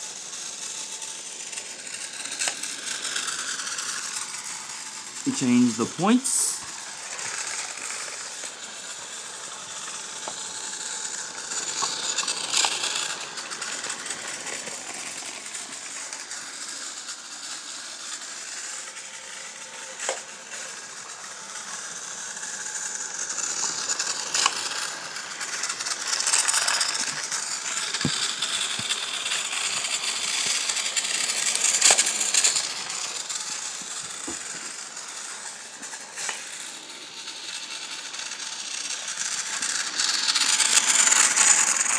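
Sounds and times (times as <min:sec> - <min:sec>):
toy train clicking and rattling: 0:00.0 - 0:41.9
toy train motor whirring: 0:00.0 - 0:41.9.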